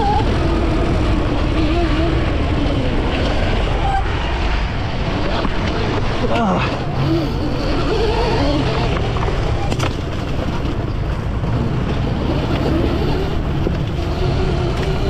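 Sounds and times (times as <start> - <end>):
wind and rough ground rumble: 0.0 - 15.0.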